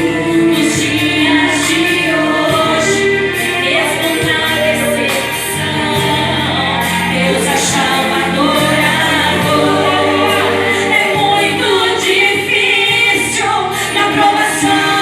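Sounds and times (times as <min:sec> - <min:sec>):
instrumental backing: 0:00.0 - 0:15.0
women singing gospel song: 0:00.0 - 0:15.0.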